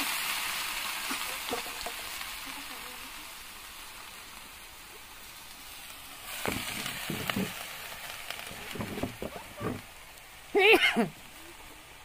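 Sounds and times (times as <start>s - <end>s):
leaves sizzling in a wok: 0.0s - 12.0s.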